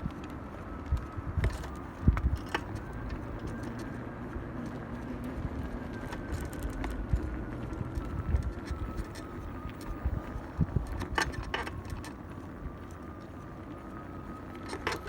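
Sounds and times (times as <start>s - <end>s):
road and wind rumble: 0.0s - 15.0s.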